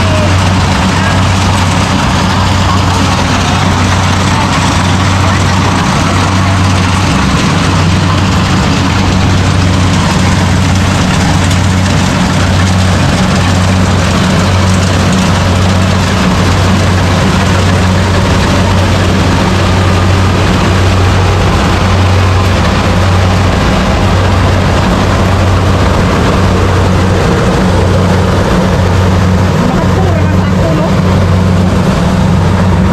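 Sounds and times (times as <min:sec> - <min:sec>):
combine harvester engine hum: 0:00.0 - 0:32.9
even rushing noise: 0:00.0 - 0:32.9.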